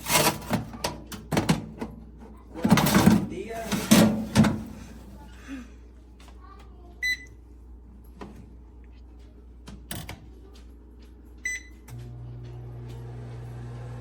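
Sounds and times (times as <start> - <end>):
oven fan humming: 0.0 - 5.8, 7.0 - 14.0.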